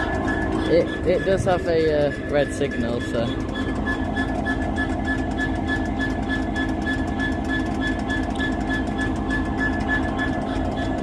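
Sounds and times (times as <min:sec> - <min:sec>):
locomotive engine idling: 0:00.0 - 0:11.0.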